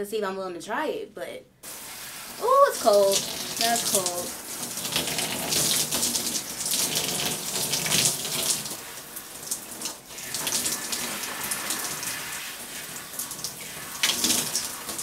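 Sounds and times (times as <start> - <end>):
shower spray on hair: 1.6 - 15.0.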